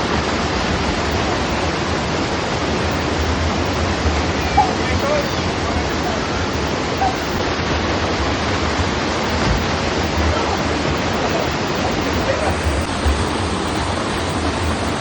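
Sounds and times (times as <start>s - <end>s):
waterfall and river rushing: 0.0s - 15.0s.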